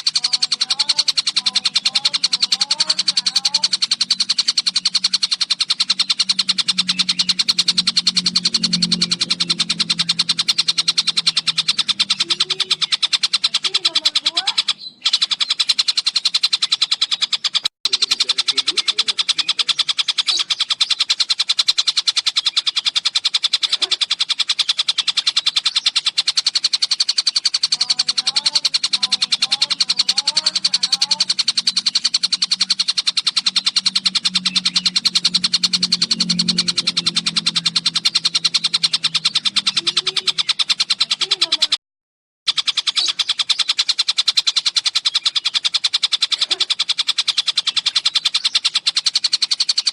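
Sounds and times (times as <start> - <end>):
kingfisher rattling chatter: 0.0 - 41.8, 42.5 - 49.9.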